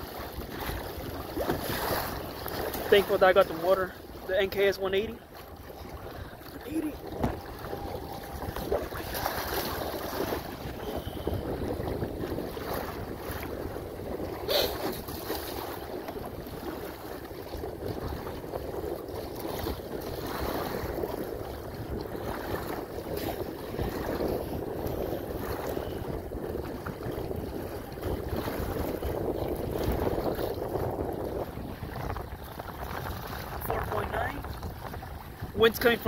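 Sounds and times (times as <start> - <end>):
water slapping against kayak hull: 0.0 - 36.0
wind buffeting microphone: 0.0 - 36.0.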